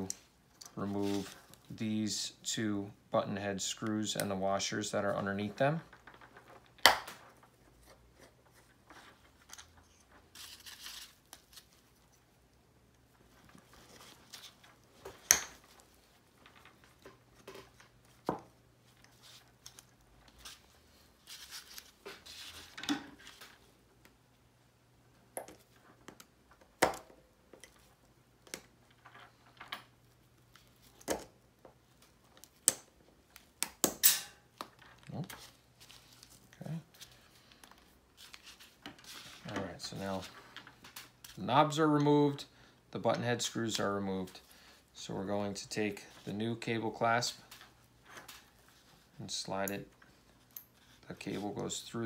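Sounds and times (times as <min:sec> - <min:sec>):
soft rustling and crinkling: 0:00.0 - 0:02.2, 0:03.8 - 0:24.2, 0:27.4 - 0:33.6, 0:34.5 - 0:42.4, 0:43.0 - 0:52.0.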